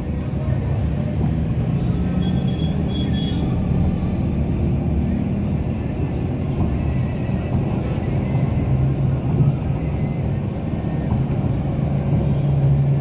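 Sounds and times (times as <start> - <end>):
road vehicle engine and tyres: 0.0 - 13.0.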